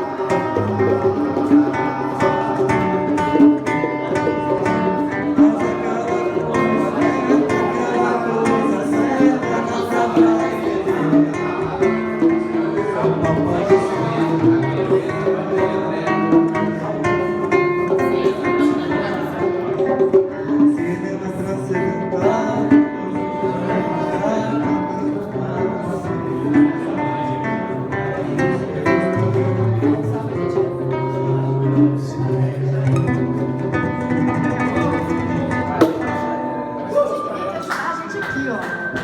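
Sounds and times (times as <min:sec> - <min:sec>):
hand drums tapping: 0:00.0 - 0:37.0
acoustic guitar playing: 0:00.0 - 0:39.0.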